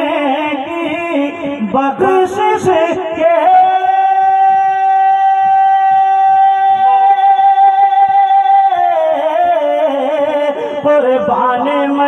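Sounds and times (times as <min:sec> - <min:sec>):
man singing through pa: 0:00.0 - 0:12.0.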